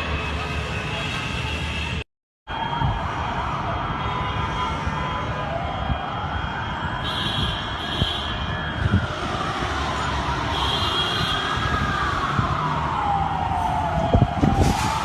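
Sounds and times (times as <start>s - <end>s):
emergency vehicle siren wailing: 2.5s - 15.0s.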